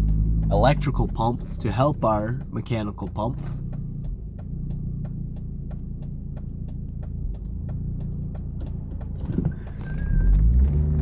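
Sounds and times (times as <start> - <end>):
light ticking: 0.0 - 11.0
vehicle engine and road rumble: 0.0 - 11.0.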